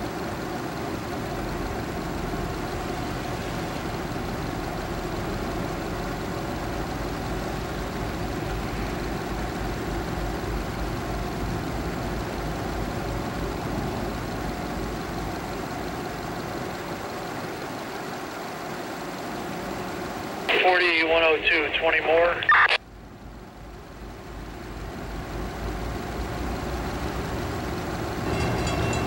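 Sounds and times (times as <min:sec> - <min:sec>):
diesel train engines humming: 0:00.0 - 0:29.0.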